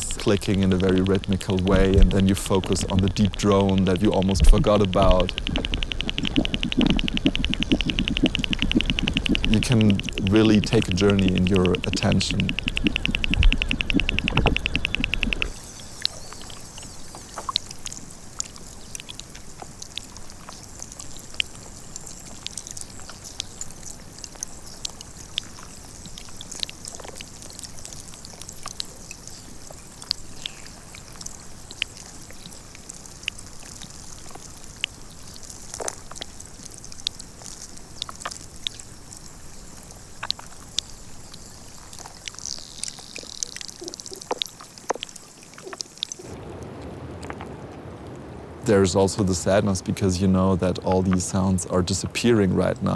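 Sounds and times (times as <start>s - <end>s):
air bubble clicking: 0.0s - 46.4s
ice clicks and crackles: 0.0s - 46.4s
steady high hiss: 0.0s - 46.5s, 48.6s - 52.9s
deep underwater drone: 0.0s - 48.1s.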